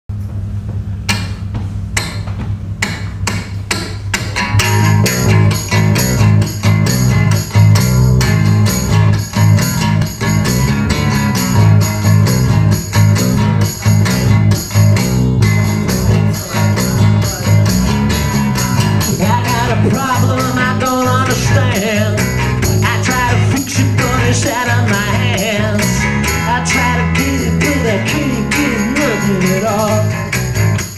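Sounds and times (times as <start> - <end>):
percussion beat: 0.3 - 30.9
electric bass guitar: 4.0 - 30.9
strummed acoustic guitar: 4.3 - 30.9.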